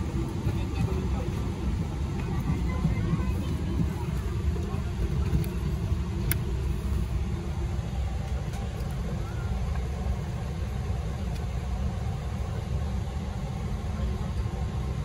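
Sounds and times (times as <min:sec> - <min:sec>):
aircraft cabin rumble and airflow hiss: 0:00.0 - 0:15.0.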